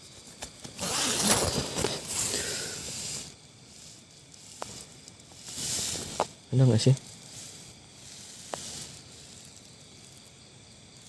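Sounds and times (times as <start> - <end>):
rustling and scraping: 0.0 - 11.0.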